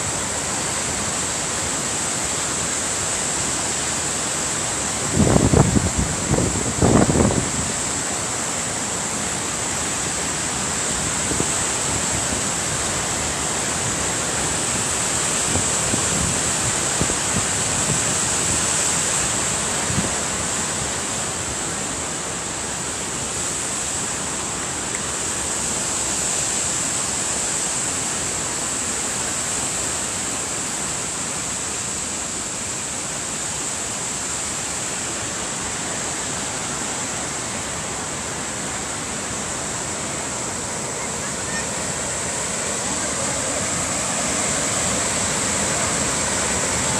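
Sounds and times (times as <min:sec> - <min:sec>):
high hiss: 0:00.0 - 0:46.9
rushing water: 0:00.0 - 0:46.9.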